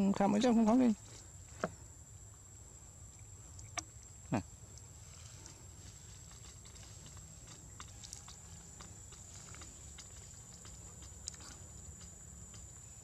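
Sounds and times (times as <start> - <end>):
monkey chewing food: 1.0 - 13.0.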